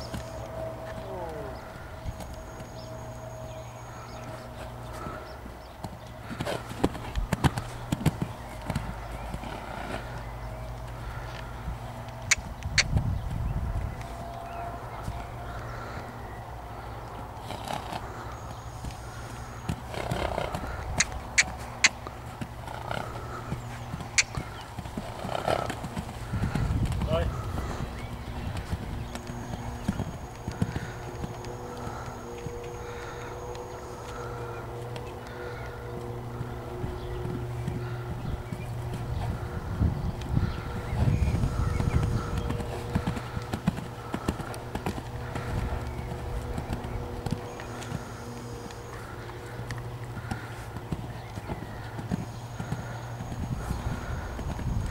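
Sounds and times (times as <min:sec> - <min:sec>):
horse hoofbeats on sand: 0:03.9 - 0:11.6, 0:17.4 - 0:54.9.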